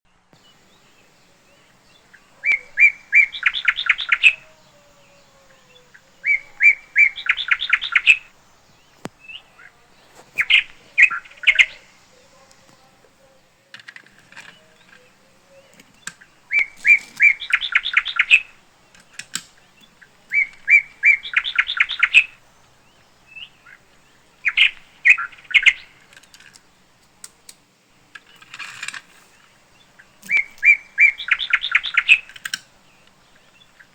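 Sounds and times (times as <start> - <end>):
songbird chirping song: 0.1 - 33.9.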